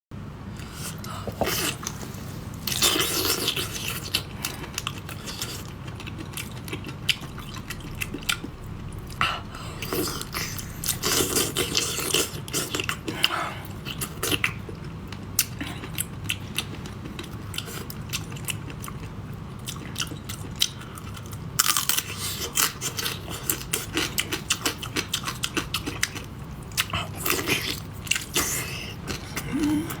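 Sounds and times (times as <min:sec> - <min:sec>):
person chewing food: 0:00.6 - 0:30.0.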